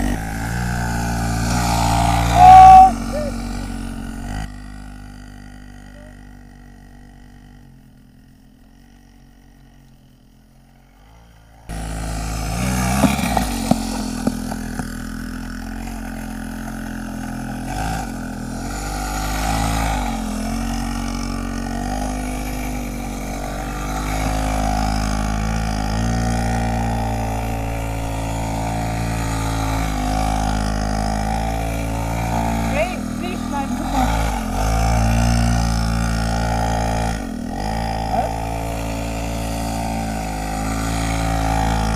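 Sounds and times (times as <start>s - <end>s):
small motorbike engine running: 0.0s - 41.9s.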